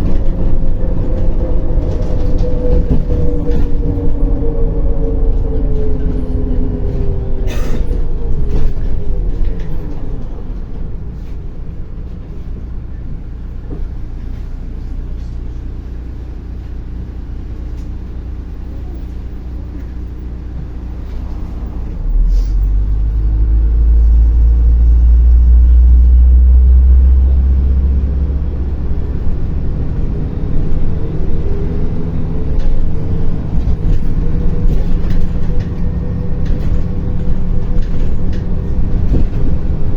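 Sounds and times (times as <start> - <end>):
bus engine: 0.0 - 39.9.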